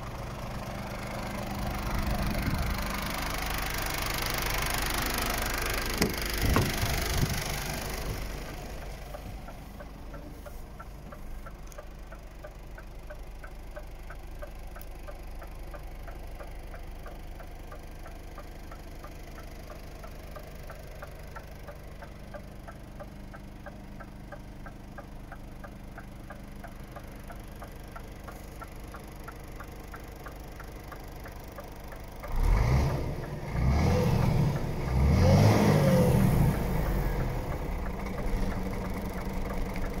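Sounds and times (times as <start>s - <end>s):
diesel engine idling and revving: 0.0s - 40.0s
light ticking: 1.1s - 35.0s, 36.1s - 40.0s.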